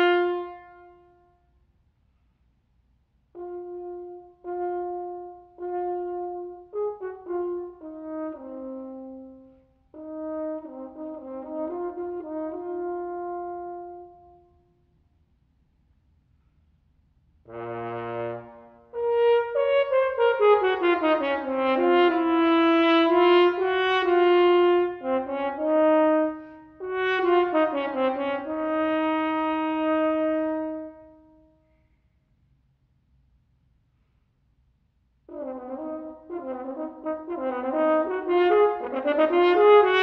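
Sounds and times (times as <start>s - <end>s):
solo french horn: 0.0s - 1.7s, 3.1s - 15.1s, 17.3s - 32.0s, 35.2s - 40.0s.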